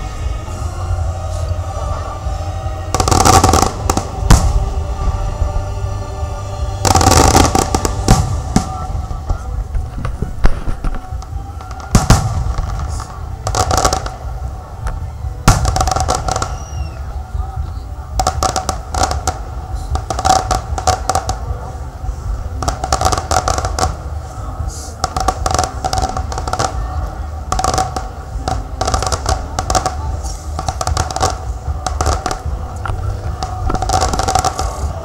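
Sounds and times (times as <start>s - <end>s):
fireworks bursting and crackling: 0.0s - 35.0s
steady low rumble: 0.0s - 35.0s.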